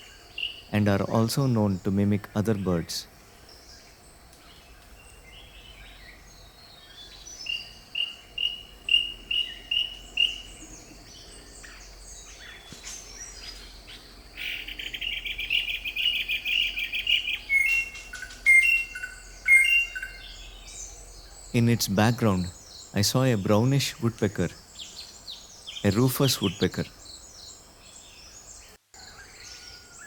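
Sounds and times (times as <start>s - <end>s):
birds whistling notes: 4.5s - 30.0s.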